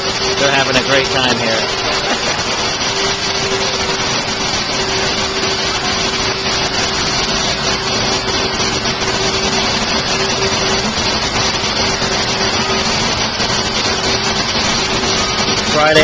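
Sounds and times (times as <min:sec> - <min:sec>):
constant whine: 0:00.0 - 0:16.0
electric blower motors whirring: 0:00.0 - 0:16.0.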